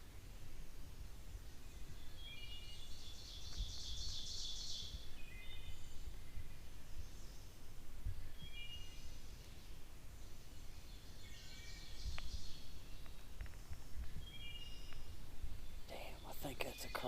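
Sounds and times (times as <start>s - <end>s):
fast trilled birdsong: 1.5s - 7.6s, 8.2s - 17.0s.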